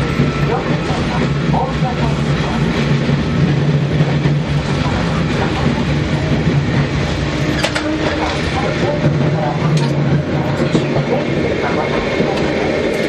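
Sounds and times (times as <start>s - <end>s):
tram running hum: 0.0s - 13.0s
wheels rumbling on rails: 0.0s - 13.0s.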